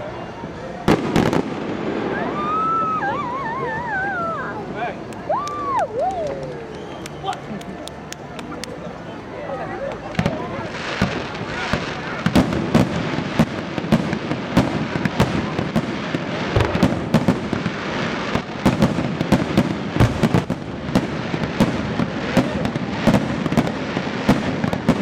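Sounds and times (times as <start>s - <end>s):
fireworks crackle and rumble: 0.0s - 25.0s
fireworks bangs: 0.8s - 5.8s, 9.9s - 25.0s.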